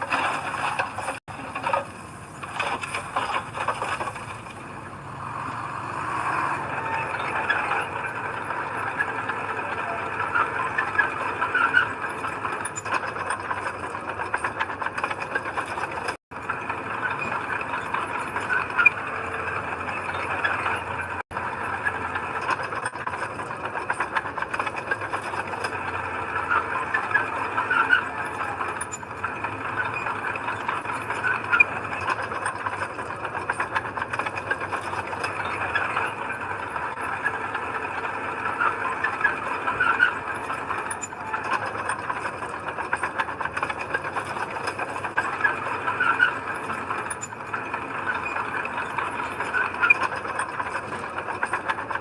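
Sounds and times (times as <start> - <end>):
heavy machinery engine: 0.0 - 52.0
metallic clatter and squeaking: 0.0 - 52.0.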